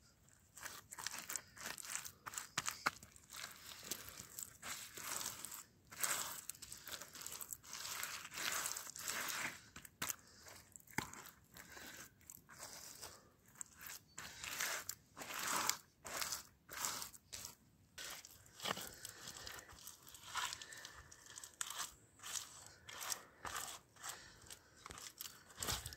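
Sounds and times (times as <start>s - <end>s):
grit clicks: 0.2s - 25.9s
clay scraping on stone: 0.3s - 25.9s.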